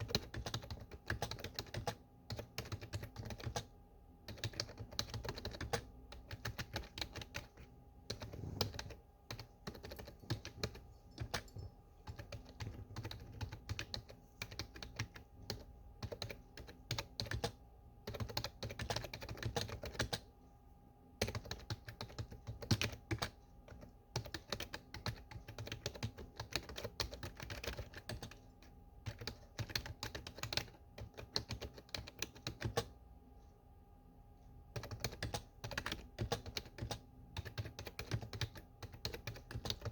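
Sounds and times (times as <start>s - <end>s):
keyboard typing clicks: 0.0s - 20.3s, 21.2s - 33.0s, 34.7s - 39.9s.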